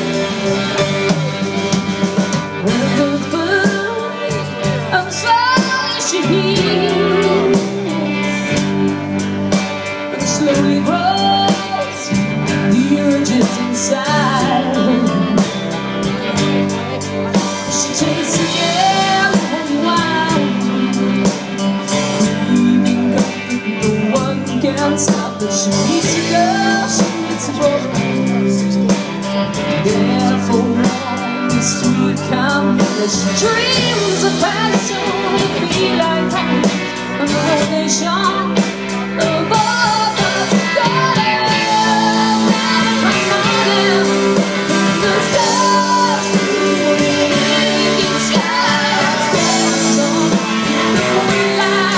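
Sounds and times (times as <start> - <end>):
live band with electric guitars: 0.0 - 51.9
woman singing: 2.5 - 9.3, 9.9 - 15.7, 17.6 - 51.9.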